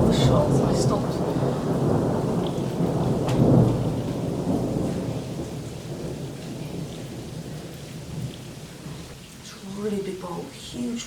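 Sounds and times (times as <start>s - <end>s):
thunder rumbling: 0.0s - 9.2s
light rain falling: 0.0s - 11.0s.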